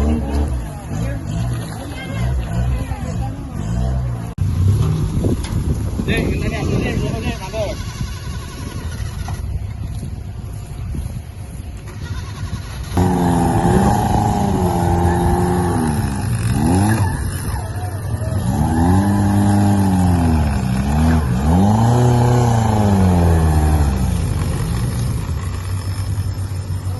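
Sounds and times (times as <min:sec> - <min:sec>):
off-road vehicle engine revving: 0:00.0 - 0:08.0, 0:12.0 - 0:26.9.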